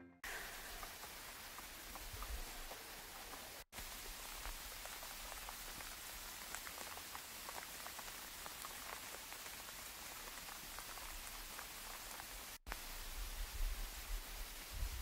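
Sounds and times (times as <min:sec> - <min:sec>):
light rain on water: 0:00.2 - 0:15.0.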